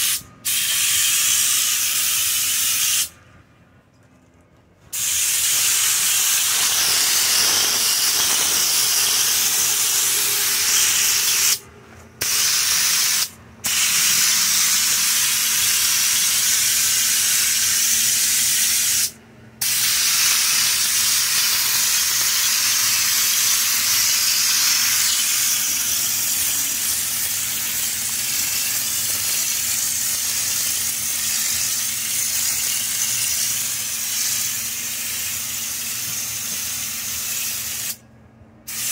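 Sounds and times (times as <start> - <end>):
spray gun hissing compressed air: 0.0 - 3.2, 4.9 - 11.6, 12.2 - 38.0, 38.7 - 38.9.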